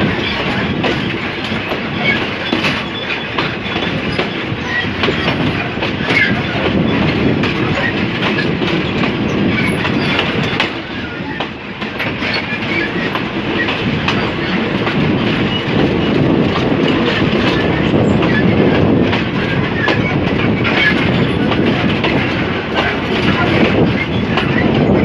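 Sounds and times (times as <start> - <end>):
train wheels rumbling on rails: 0.0 - 25.0
wheels clattering over rail joints: 0.0 - 25.0.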